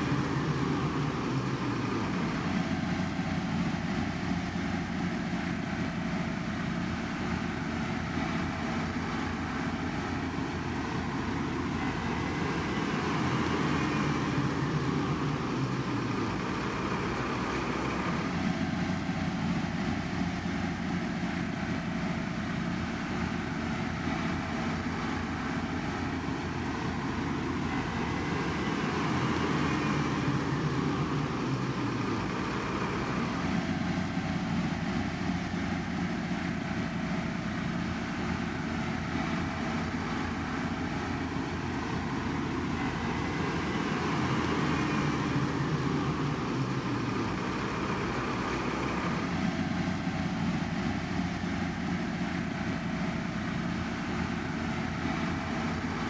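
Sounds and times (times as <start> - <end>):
road construction machinery rumble: 0.0 - 56.0.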